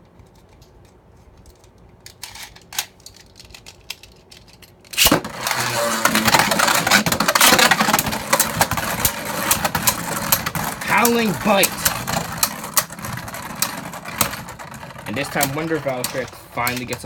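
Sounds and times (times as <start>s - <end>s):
spinning tops clashing rattle: 2.2s - 17.0s.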